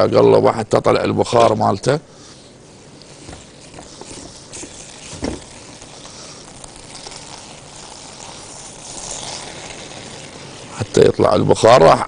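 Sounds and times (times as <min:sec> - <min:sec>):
faint hiss of food cooking: 0:00.0 - 0:12.0.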